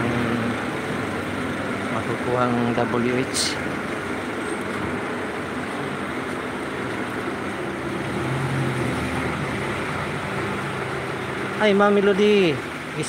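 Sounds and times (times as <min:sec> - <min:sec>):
low engine hum: 0:00.0 - 0:13.0
street traffic engines: 0:00.0 - 0:13.0.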